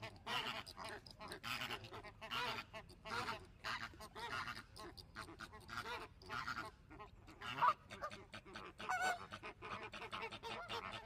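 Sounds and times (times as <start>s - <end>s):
ducks honking and quacking: 0.0s - 11.0s.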